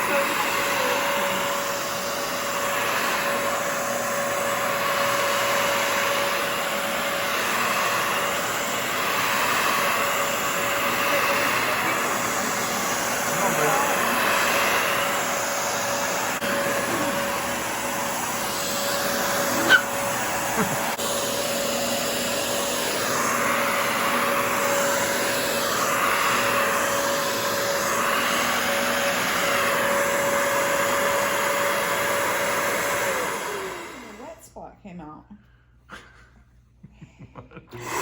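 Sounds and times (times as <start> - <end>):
carpet cleaner motor whine: 0.0 - 34.4, 37.7 - 38.0.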